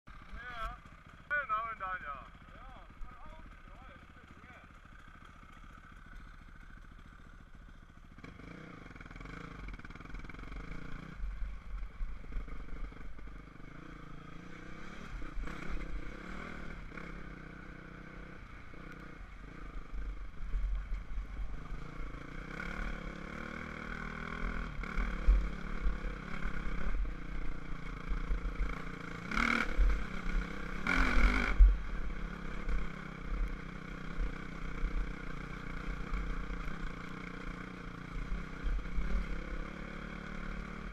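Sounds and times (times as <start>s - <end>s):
dirt bike engine revving: 0.1s - 40.9s.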